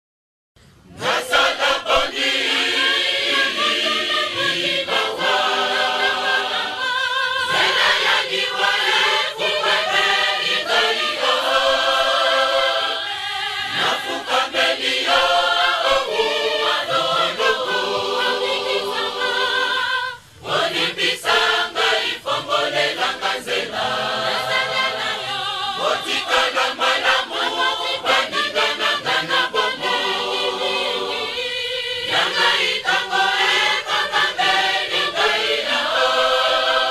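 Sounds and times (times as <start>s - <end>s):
choir singing: 0.9s - 36.9s.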